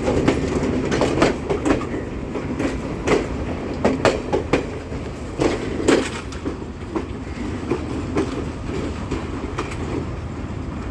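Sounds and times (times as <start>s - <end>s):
wheels clacking over rail joints: 0.0s - 10.1s
train rumbling on tracks: 0.0s - 10.9s.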